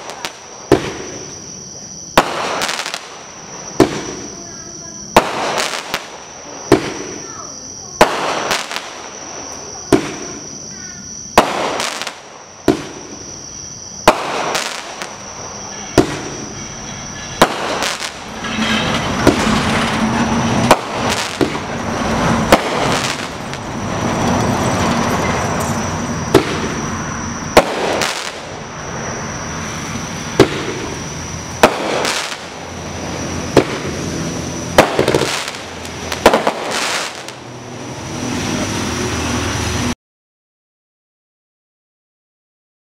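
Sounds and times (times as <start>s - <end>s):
fireworks shots and bursts: 0.0s - 25.0s, 25.9s - 39.3s
fireworks hissing crackle: 0.0s - 40.0s.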